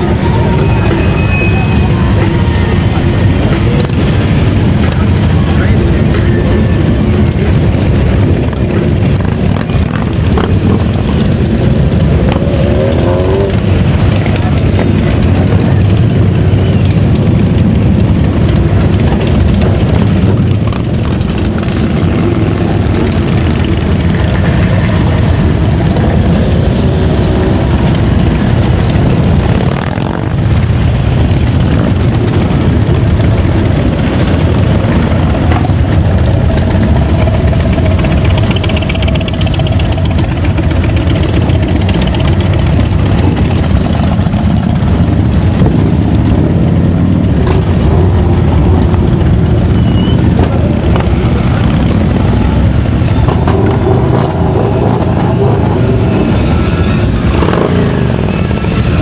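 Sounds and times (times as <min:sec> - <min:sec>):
vehicle engines rumbling: 0:00.0 - 0:59.0.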